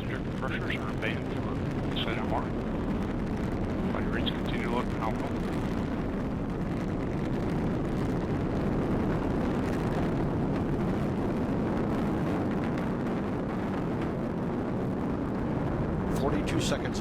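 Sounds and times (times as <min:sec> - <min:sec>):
rocket engine low rumble: 0:00.0 - 0:17.0.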